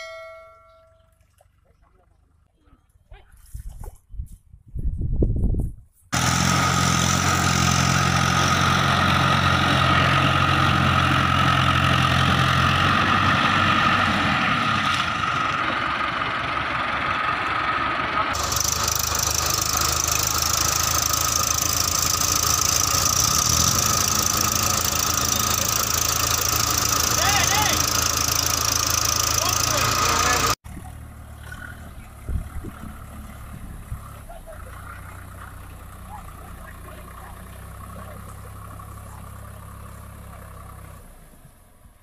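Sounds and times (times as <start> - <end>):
tractor diesel engine running: 6.1 - 42.0.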